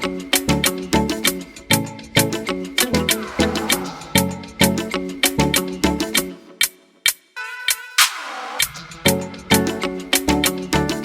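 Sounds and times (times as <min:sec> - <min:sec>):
bouncy music with plucked chords: 0:00.0 - 0:06.8, 0:08.8 - 0:11.0.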